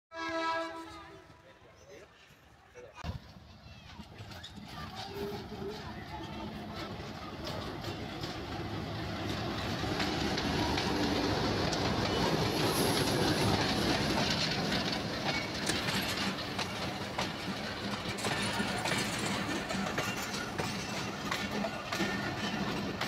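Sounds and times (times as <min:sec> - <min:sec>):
diesel locomotive passing: 0:00.1 - 0:01.7, 0:03.2 - 0:23.0
train wheels clicking over rail joints: 0:03.1 - 0:23.0.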